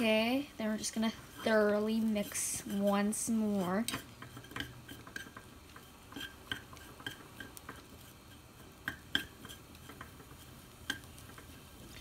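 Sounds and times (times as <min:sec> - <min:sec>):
chopsticks tapping metal pan: 0:00.8 - 0:11.8.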